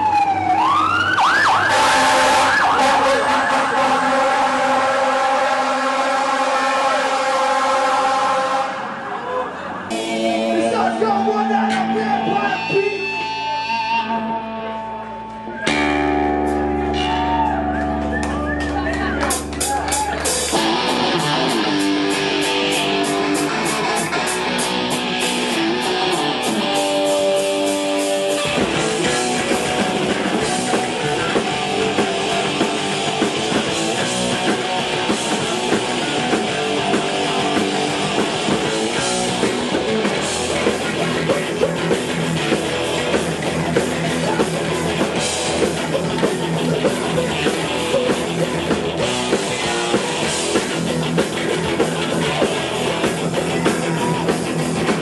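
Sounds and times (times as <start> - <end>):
punk rock band playing: 0.0 - 55.0.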